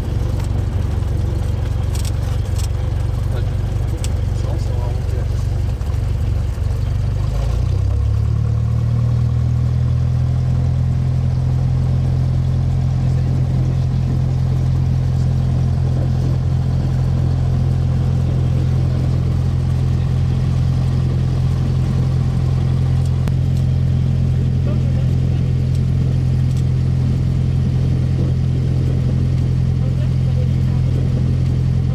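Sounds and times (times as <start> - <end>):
aircraft piston engine droning: 0.0 - 31.9.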